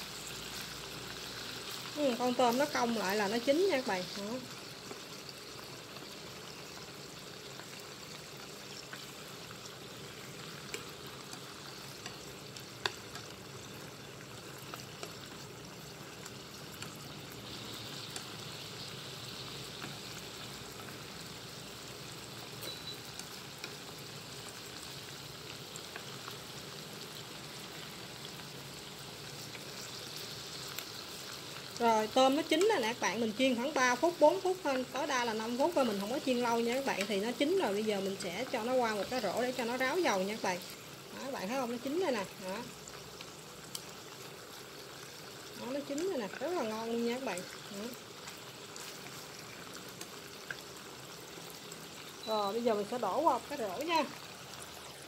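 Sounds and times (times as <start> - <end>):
shrimp sizzling in hot oil: 0.0 - 55.0.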